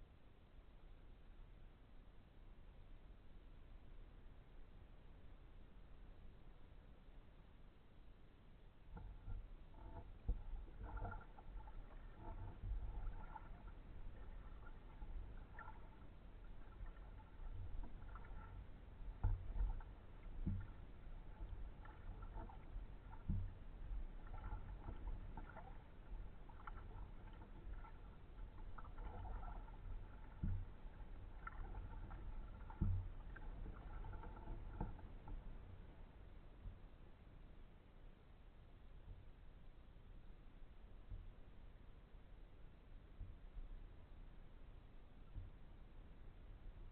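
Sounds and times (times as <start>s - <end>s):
paddle dipping and dripping in water: 4.1s - 37.6s, 40.6s - 46.9s.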